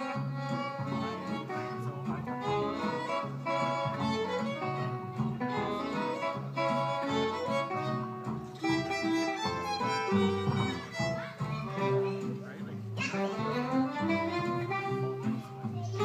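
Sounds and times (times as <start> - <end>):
strummed acoustic guitar: 0.0 - 16.0
upright bass: 0.0 - 16.0
violin melody: 0.0 - 16.0.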